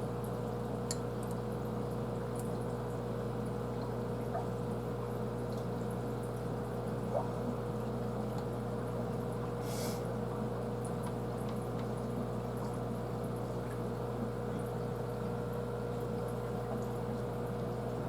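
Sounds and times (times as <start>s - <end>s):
aquarium pump humming: 0.0s - 18.0s.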